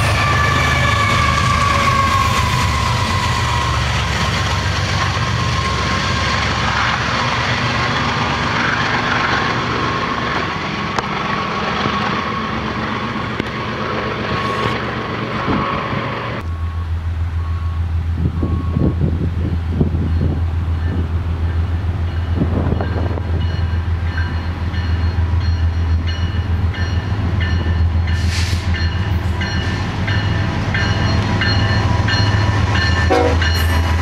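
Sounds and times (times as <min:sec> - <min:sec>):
diesel locomotive rumbling past: 0:00.0 - 0:34.0.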